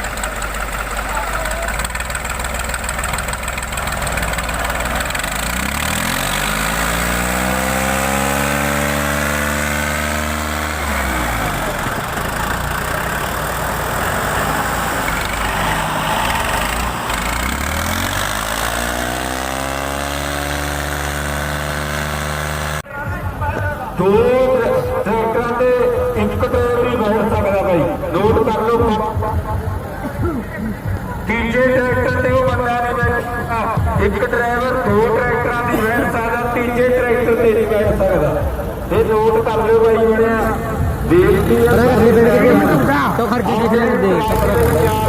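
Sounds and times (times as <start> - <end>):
tractor diesel engines under load: 0.0 - 45.0.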